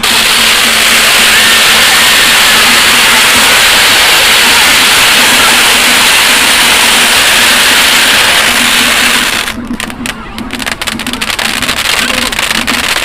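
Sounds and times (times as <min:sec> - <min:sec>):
fireworks crackling: 0:00.0 - 0:13.0
fireworks hissing rush: 0:00.0 - 0:13.0.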